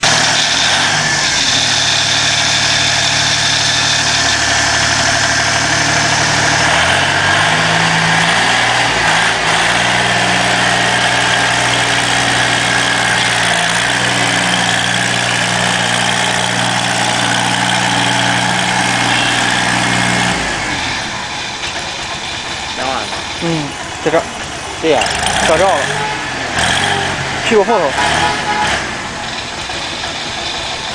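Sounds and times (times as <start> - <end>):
road roller engine running: 0.0 - 30.9.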